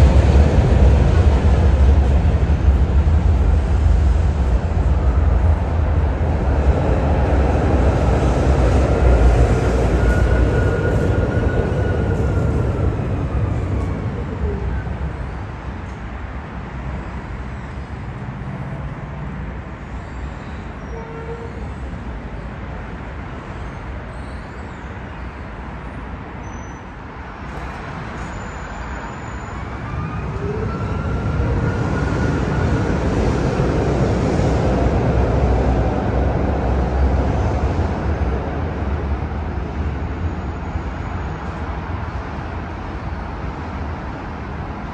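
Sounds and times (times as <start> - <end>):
street traffic: 0.0 - 44.9
tram rumbling past: 0.0 - 44.9.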